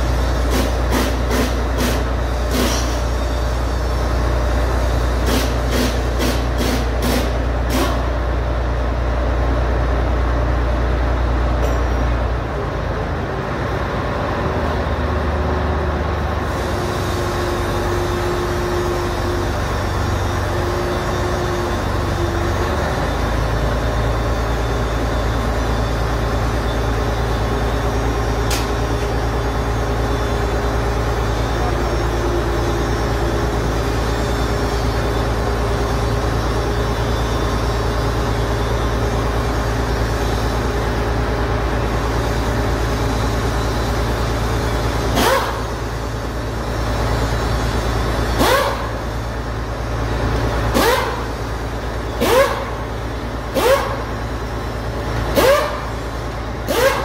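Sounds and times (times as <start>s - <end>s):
heavy engine droning: 0.0s - 57.0s.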